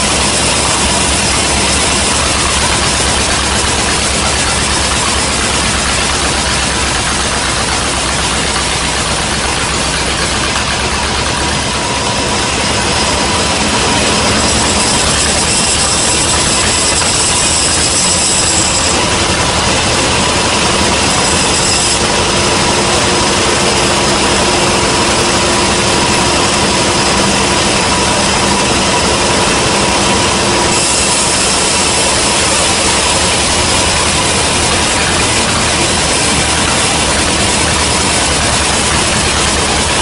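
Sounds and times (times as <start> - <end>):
sawmill machinery running: 0.0 - 40.0
thin high whine: 0.0 - 40.0.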